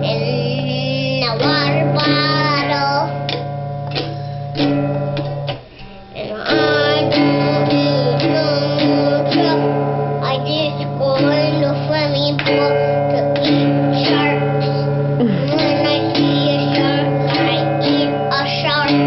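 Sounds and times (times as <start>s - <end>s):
child singing: 0.0s - 3.4s, 6.2s - 19.0s
guitar music: 0.0s - 19.0s.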